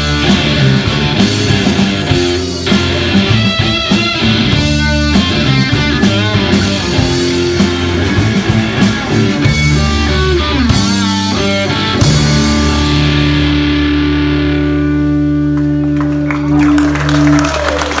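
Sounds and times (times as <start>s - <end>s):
drums and cymbal hits: 0.0s - 14.8s
distorted electric guitar: 0.0s - 17.2s
bass guitar: 0.0s - 18.0s.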